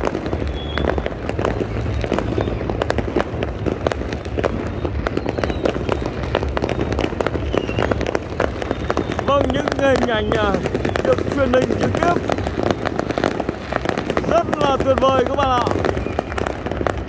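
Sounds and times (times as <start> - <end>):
fireworks bangs and crackles: 0.0 - 17.0
low rumble of distant bursts: 0.0 - 17.0.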